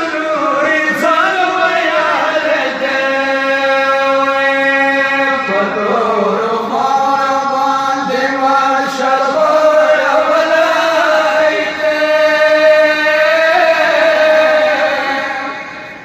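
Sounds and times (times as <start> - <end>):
men chanting through microphones: 0.0 - 15.8.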